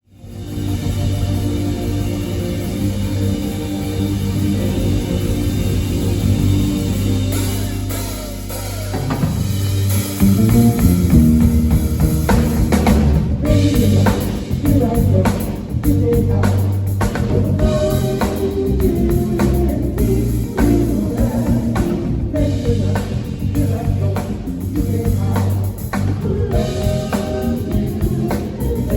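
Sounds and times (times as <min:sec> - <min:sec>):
bass line: 0:00.0 - 0:28.9
drum kit: 0:00.0 - 0:28.9
person singing: 0:01.6 - 0:10.0, 0:13.4 - 0:28.9.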